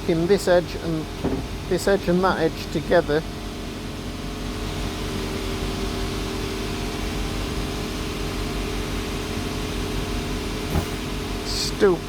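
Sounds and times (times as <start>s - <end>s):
workshop machine humming: 0.0s - 12.0s.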